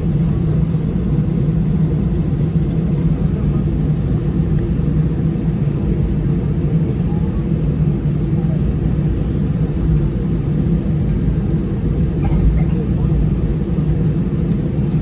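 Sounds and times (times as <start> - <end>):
aircraft engines idling in cabin: 0.0 - 15.0.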